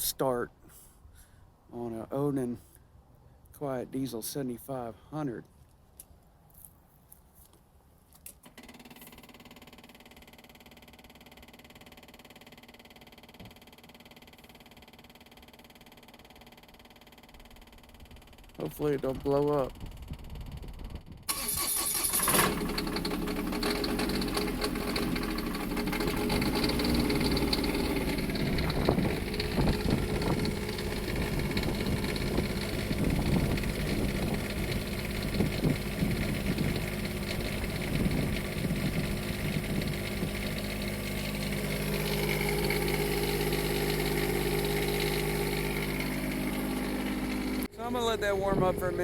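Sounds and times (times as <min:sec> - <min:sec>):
diesel generator starting and idling: 0:08.4 - 0:49.0.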